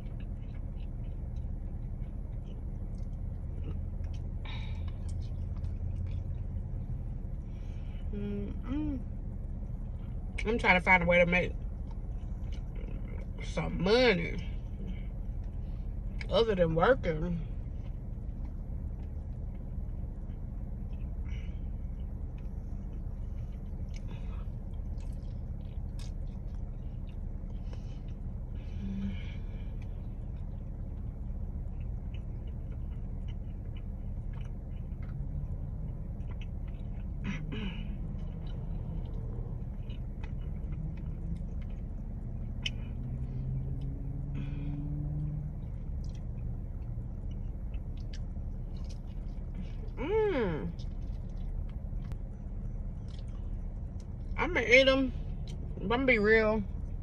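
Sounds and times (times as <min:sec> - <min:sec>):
person chewing food: 0:00.0 - 0:10.3, 0:11.6 - 0:13.4, 0:17.6 - 0:54.4
low rumble inside car: 0:00.0 - 0:57.0.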